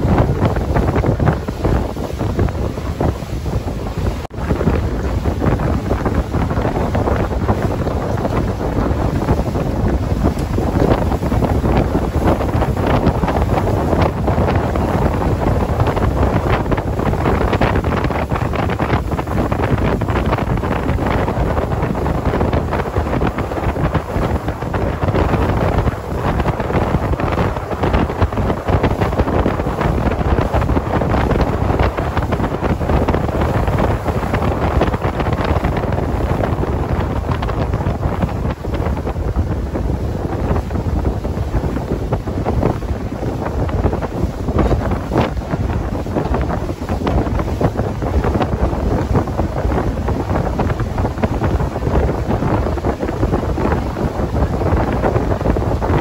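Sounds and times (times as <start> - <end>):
boat engine: 0.0 - 56.0
water rushing along hull: 0.0 - 56.0
wind buffeting microphone: 0.0 - 56.0.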